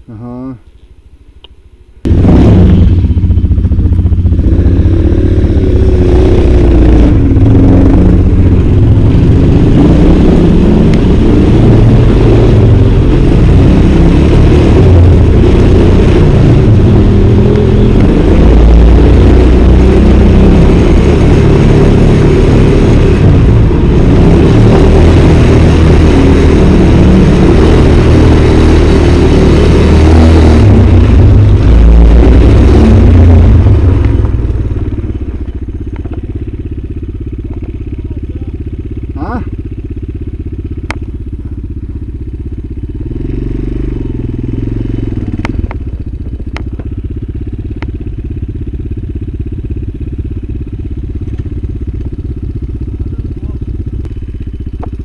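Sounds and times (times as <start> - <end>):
motorcycle engine revving: 2.0 - 55.0.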